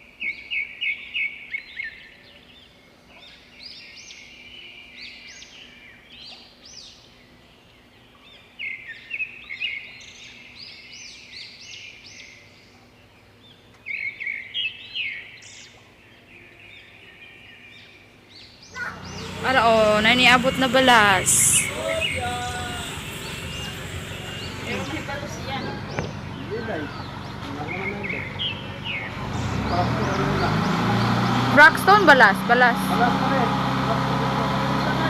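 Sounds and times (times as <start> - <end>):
birds chirping: 0.2 - 35.0.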